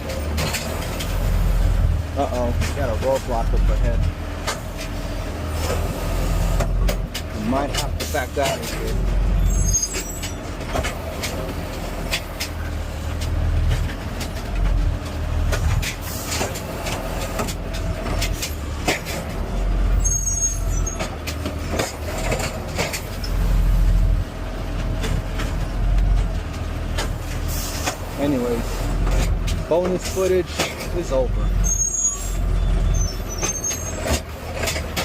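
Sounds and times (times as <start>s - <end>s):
garbage truck engine rumbling: 0.0s - 35.0s.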